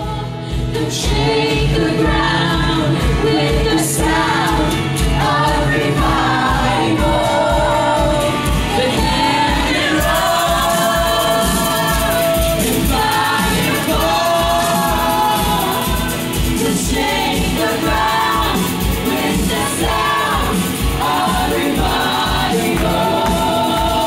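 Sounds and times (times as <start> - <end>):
acoustic guitar: 0.0 - 24.0
voices singing together: 0.0 - 24.0.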